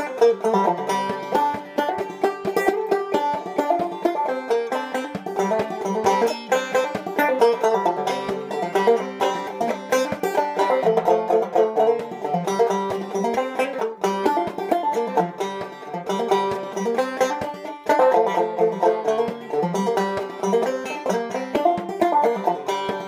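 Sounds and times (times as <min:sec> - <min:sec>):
banjo picking and strumming: 0:00.0 - 0:23.0.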